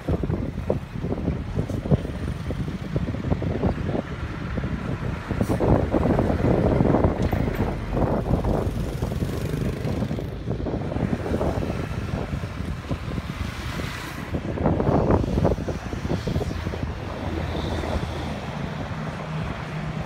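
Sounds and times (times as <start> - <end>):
road traffic: 0.0 - 20.0
wind buffeting microphone: 0.0 - 20.0.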